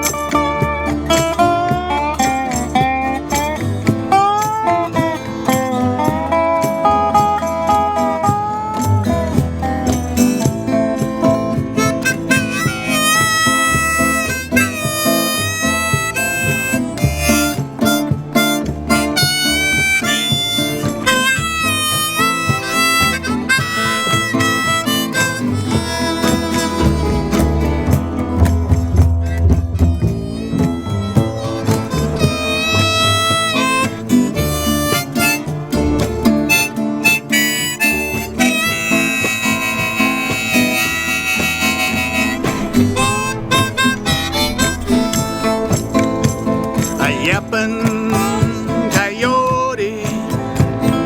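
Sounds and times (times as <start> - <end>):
harmonica with bending notes: 0.0 - 51.0
strummed acoustic guitar: 0.0 - 51.0.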